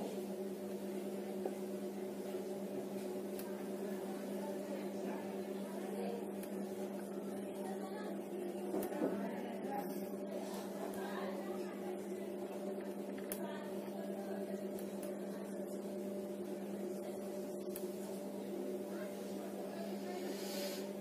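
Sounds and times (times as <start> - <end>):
steady multi-tone hum: 0.0 - 21.0.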